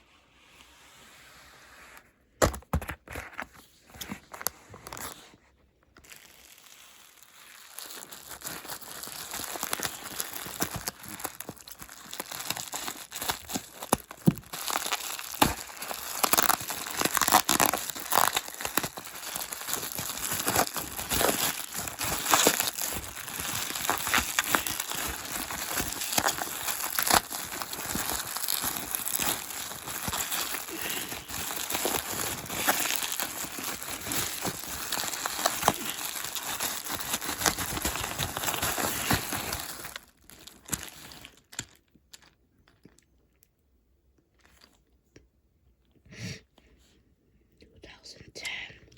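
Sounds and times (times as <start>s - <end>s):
plastic wrapper crinkling and tearing: 2.5s - 43.5s.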